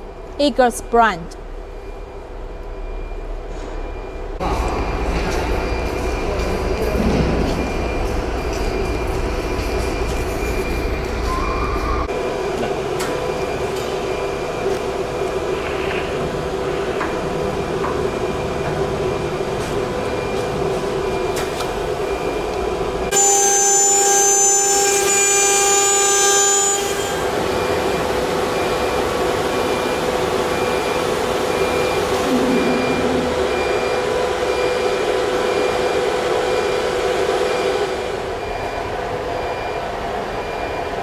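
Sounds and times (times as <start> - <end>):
high-pitched machine whine: 0.0 - 41.0
workshop machinery hum: 0.0 - 41.0.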